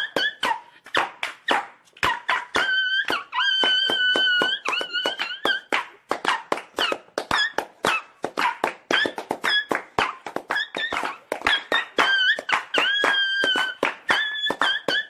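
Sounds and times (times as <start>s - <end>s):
dog whining and yelping: 1.5s - 15.0s.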